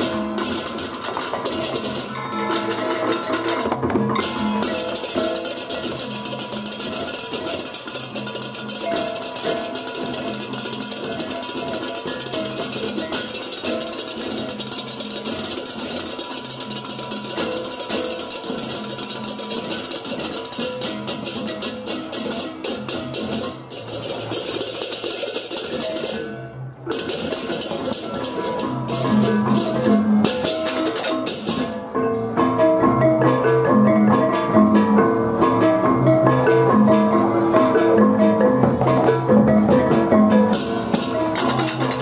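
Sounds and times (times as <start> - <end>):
drums: 0.0 - 42.0.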